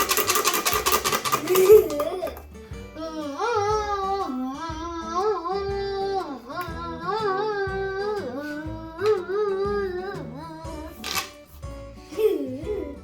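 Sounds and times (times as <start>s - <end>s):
plucked-string accompaniment: 0.0s - 13.0s.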